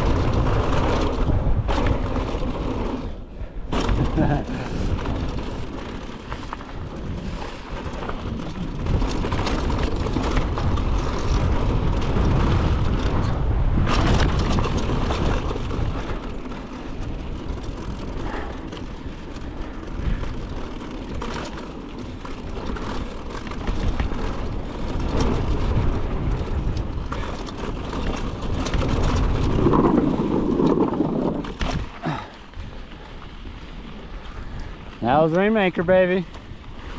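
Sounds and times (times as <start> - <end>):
bike clicks and rattles: 0.0 - 36.9
tyres rumbling on dirt: 0.0 - 36.9
wind rushing over microphone: 0.0 - 36.9.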